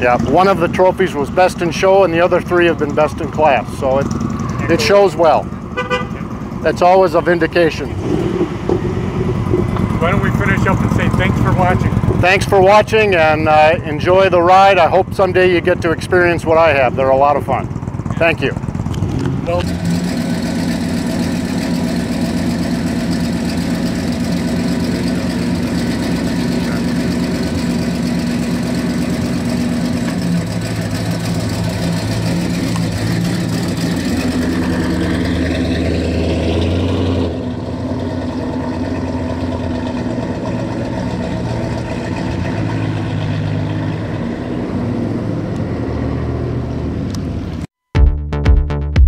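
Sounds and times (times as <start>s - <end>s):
car engine idling and revving: 0.0s - 47.7s.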